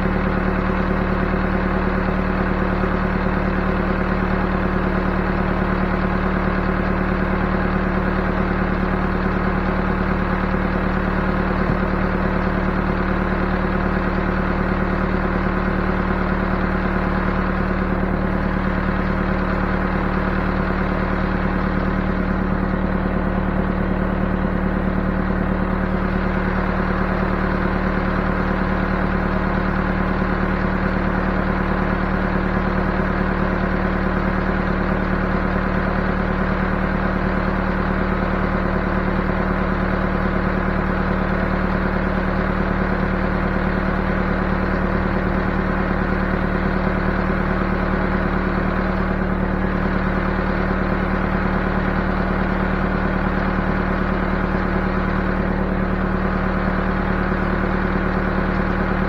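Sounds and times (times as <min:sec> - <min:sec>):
backhoe engine idling: 0:00.0 - 0:59.0.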